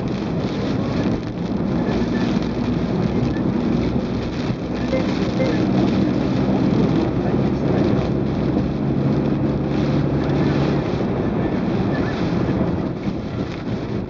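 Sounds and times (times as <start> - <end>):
car engine hum: 0.0 - 14.0
wind and rain: 0.0 - 14.0.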